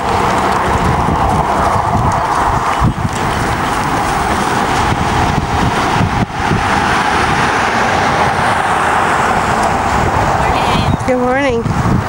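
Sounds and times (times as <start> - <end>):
road traffic rushing: 0.0 - 12.0
wind on microphone: 0.0 - 12.0.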